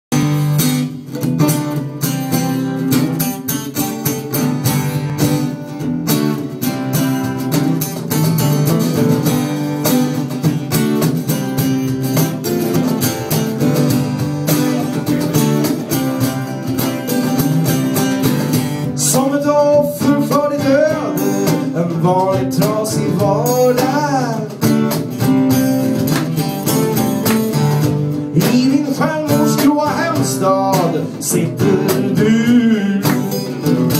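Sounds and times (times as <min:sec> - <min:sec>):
strummed acoustic guitar: 0:00.1 - 0:33.9.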